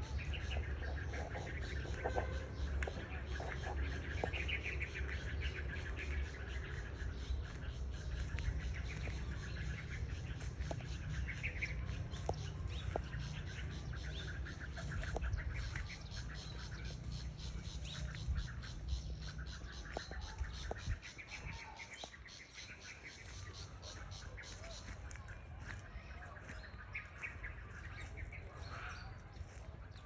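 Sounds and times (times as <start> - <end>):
birds chirping and calling: 0.0 - 30.0
steady low rumble: 0.0 - 30.0.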